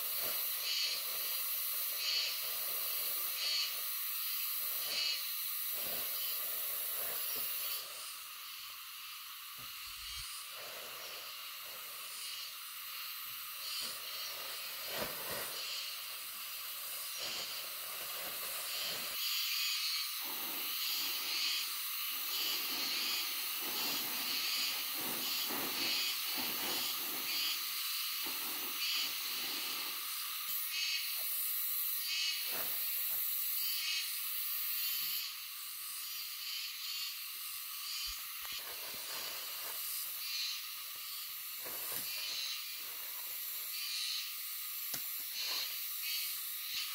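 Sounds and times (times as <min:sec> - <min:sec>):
high-pitched hiss: 0:00.0 - 0:46.9.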